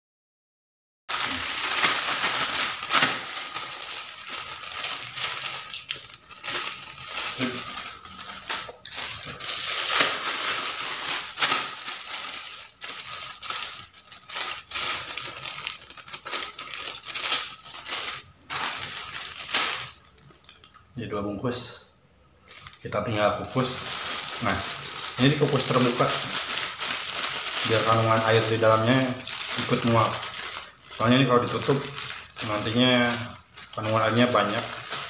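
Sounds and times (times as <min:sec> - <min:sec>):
plastic bags crinkling: 0:01.1 - 0:20.8, 0:22.4 - 0:35.0.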